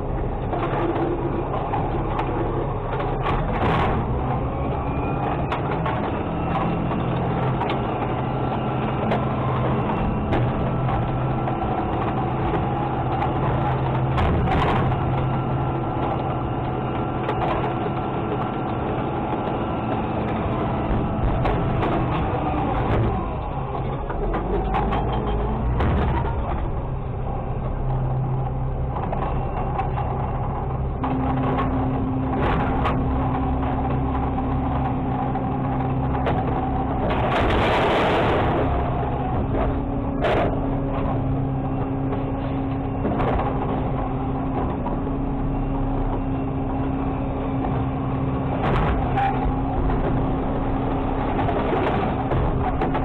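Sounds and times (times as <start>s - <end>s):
garbage truck engine and hydraulics: 0.0s - 53.0s
steady whine: 0.0s - 53.0s.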